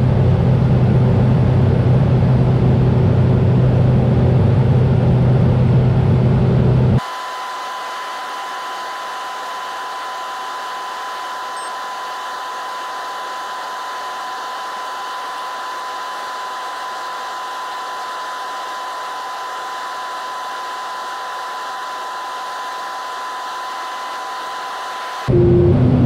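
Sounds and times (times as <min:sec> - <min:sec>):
thin steady whine: 0:00.0 - 0:26.0.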